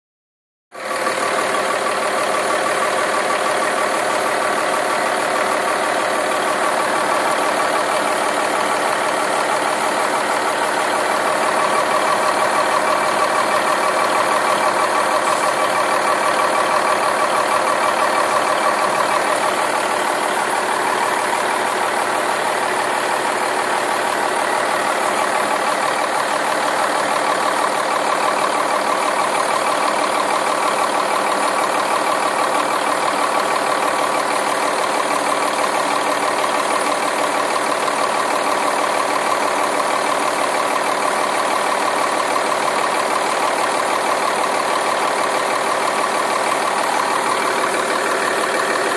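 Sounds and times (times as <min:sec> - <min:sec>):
diesel engine running: 0:00.8 - 0:48.9.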